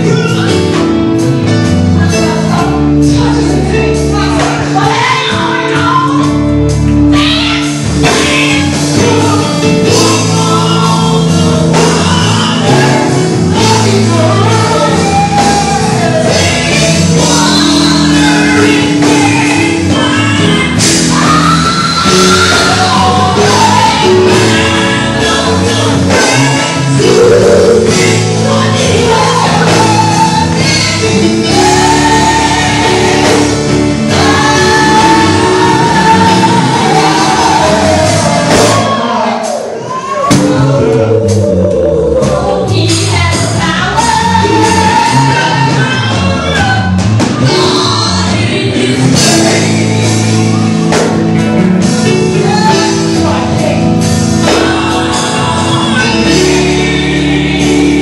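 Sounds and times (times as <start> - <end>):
band with electric guitar and drums: 0.0 - 58.0
lead singer on microphone: 0.0 - 58.0
group of women singing: 2.0 - 6.3, 7.1 - 51.1, 52.3 - 58.0.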